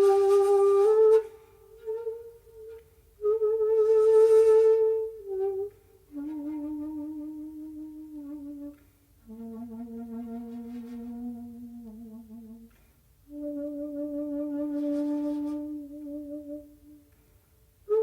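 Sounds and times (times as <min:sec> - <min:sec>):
bamboo flute playing long notes: 0:00.0 - 0:12.7, 0:13.3 - 0:17.1.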